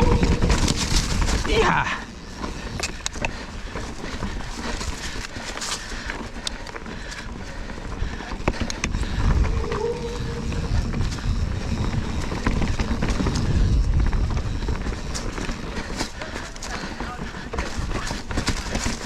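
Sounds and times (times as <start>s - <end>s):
bike rattling over rocks: 0.0s - 19.0s
wind and tyre rumble: 0.0s - 19.0s.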